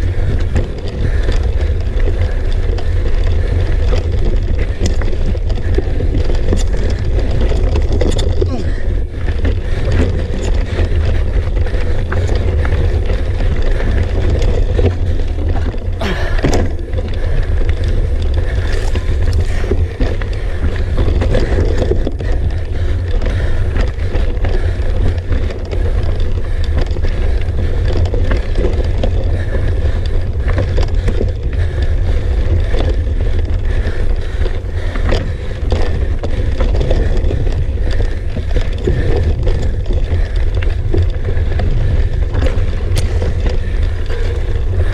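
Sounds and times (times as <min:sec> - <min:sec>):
bike tyres knocking over rocks: 0:00.0 - 0:44.9
wind and vibration rumble on microphone: 0:00.0 - 0:44.9.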